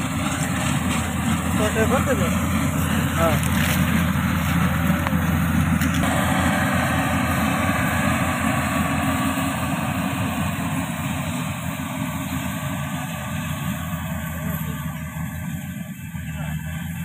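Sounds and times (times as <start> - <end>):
combine harvester engine and threshing: 0.0 - 17.0.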